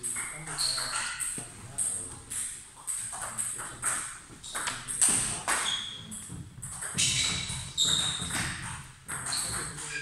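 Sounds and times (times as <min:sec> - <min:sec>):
table tennis balls clicking: 0:00.1 - 0:10.0.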